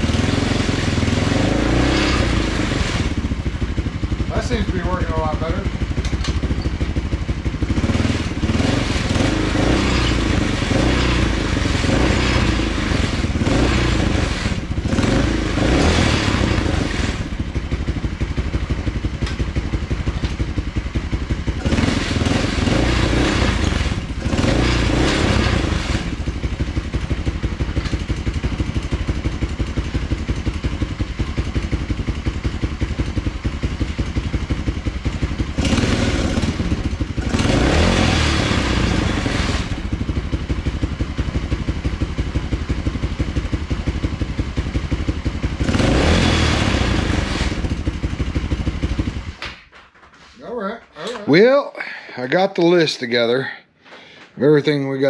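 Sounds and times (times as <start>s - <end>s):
atv engine revving: 0.0s - 49.5s.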